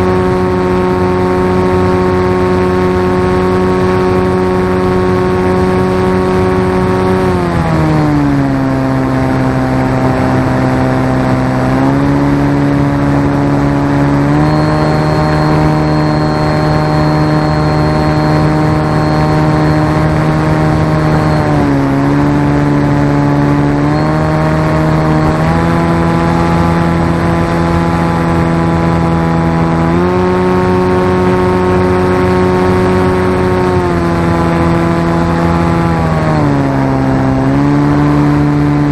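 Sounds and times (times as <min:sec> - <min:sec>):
model aircraft motor and propeller: 0:00.0 - 0:38.9.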